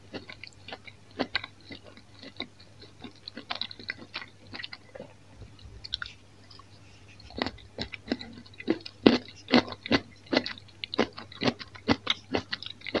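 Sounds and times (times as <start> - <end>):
wet crunchy chewing: 0.0 - 13.0.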